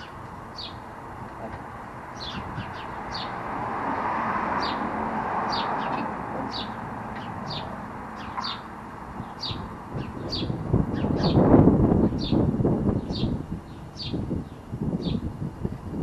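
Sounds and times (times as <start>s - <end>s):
birds chirping: 0.0s - 15.2s.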